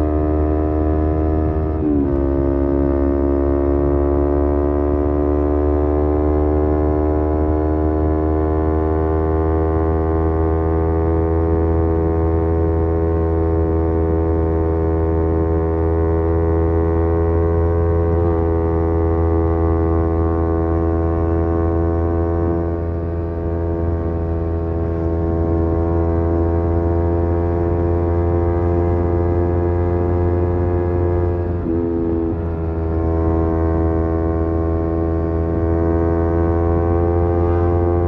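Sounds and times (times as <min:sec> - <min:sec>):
motorcycle engine cruising: 0:00.0 - 0:38.0.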